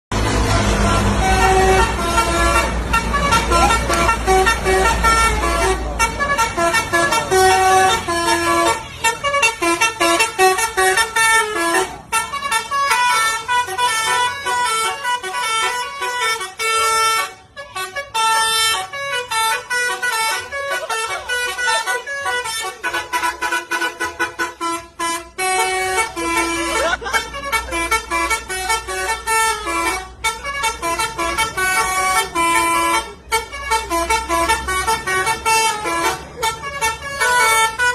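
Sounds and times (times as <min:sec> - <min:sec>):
electric trumpet horns melody: 0:00.2 - 0:37.9.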